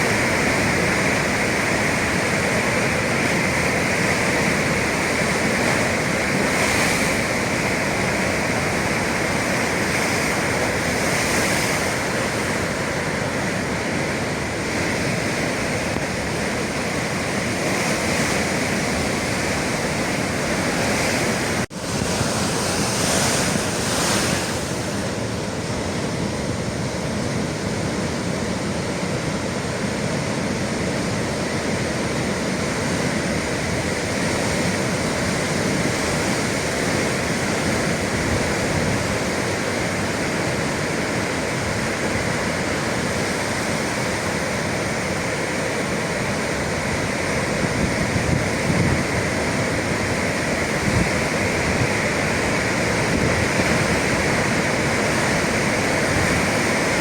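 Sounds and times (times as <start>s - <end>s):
sea surf rushing against shore: 0.0s - 57.0s.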